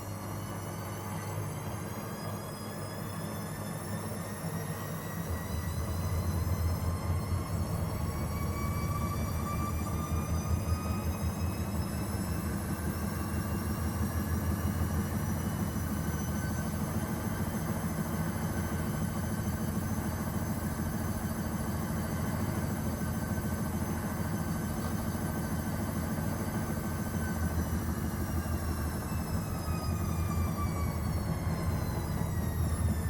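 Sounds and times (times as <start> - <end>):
washing machine motor hum and whine: 0.0 - 33.0.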